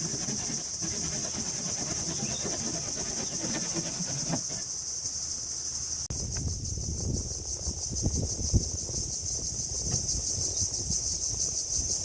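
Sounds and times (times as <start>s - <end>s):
insects chirping shrilly: 0.0s - 12.0s.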